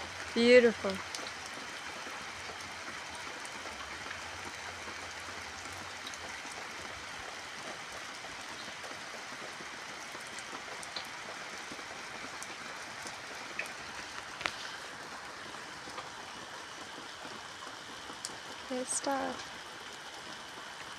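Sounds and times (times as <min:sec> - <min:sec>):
steady rain hiss: 0:00.0 - 0:20.9.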